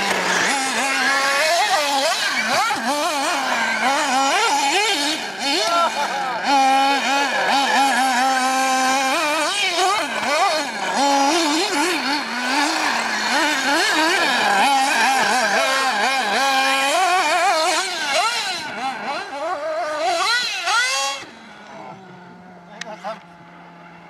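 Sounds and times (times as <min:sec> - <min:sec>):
rc car motors revving: 0:00.0 - 0:24.0.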